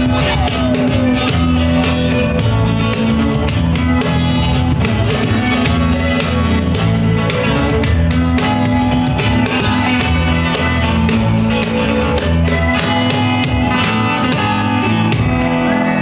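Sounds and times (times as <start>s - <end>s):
bass guitar line: 0.0s - 16.0s
drum kit: 0.0s - 16.0s
guitar: 0.0s - 16.0s.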